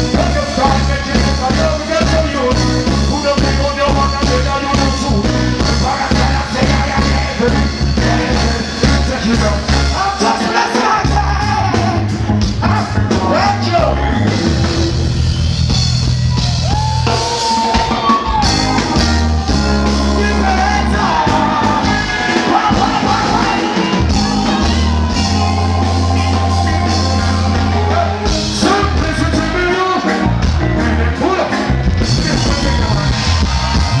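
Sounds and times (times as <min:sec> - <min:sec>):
man singing: 0:00.0 - 0:14.9, 0:19.8 - 0:25.6, 0:26.7 - 0:33.3
live reggae band playing: 0:00.0 - 0:34.0.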